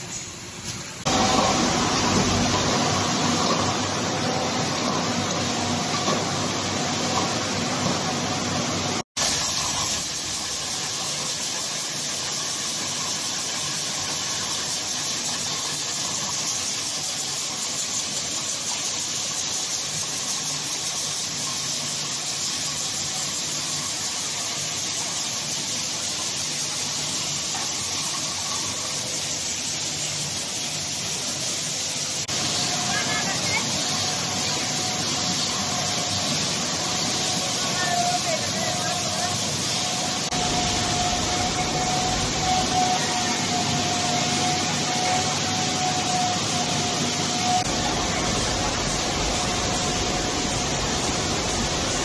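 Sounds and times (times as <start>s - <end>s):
bottle filling machinery hissing: 0.0s - 52.0s.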